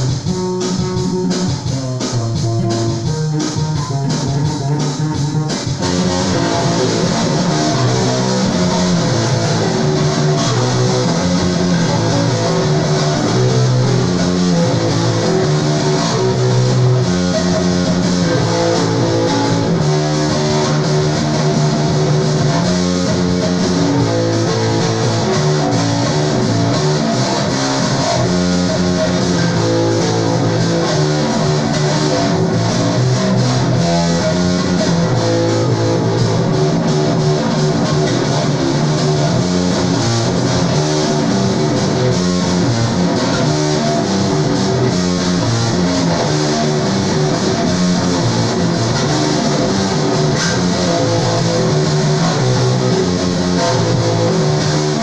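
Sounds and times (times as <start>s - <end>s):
bass guitar plucked notes: 0.0s - 55.0s.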